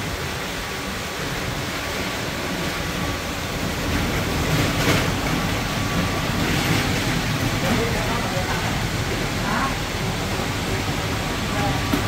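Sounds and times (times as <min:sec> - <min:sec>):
low rumbling workshop noise: 0:00.0 - 0:12.0.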